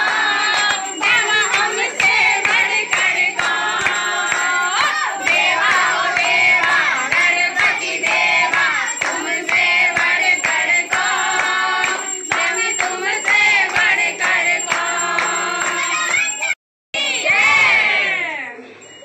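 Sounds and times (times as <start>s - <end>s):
crowd singing a devotional chant: 0.0s - 16.2s
hand-clapping in time: 0.0s - 16.6s.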